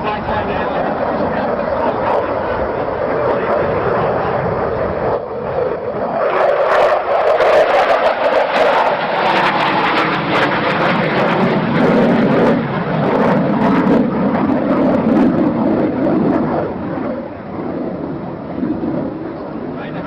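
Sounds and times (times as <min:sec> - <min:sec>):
aircraft flying past: 0:00.0 - 0:20.0.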